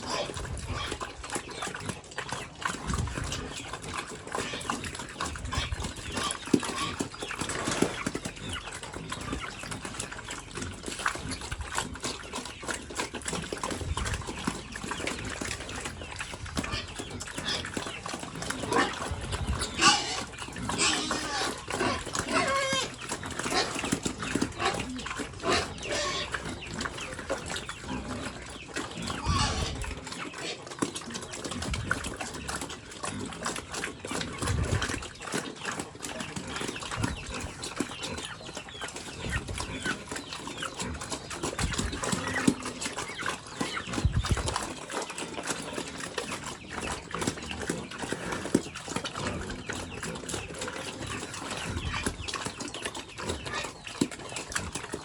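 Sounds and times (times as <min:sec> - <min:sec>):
pigs chewing and snuffling: 0:00.0 - 0:55.0
pigs grunting: 0:00.0 - 0:55.0.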